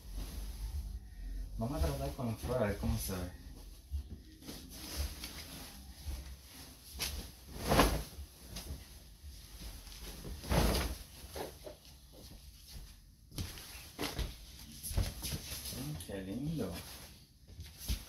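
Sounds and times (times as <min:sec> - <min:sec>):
bedspread swishing and rustling: 0:00.0 - 0:18.0.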